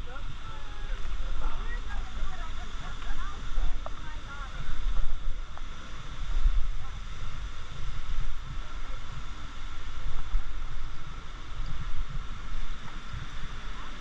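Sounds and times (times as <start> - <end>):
waterfall rushing: 0.0 - 14.0
wind buffeting microphone: 0.0 - 14.0.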